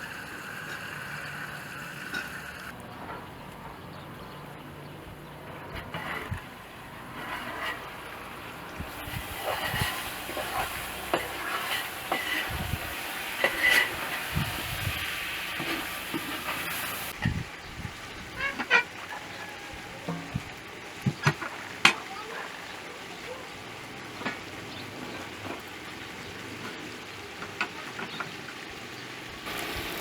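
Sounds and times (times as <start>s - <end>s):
potatoes sizzling in a pan: 0.0s - 2.8s, 6.0s - 30.0s.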